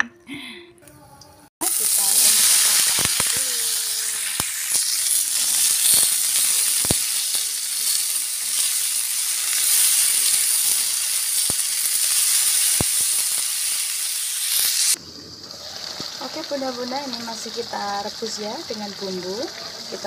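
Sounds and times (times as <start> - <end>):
beans sizzling in a wok: 1.6 - 20.0.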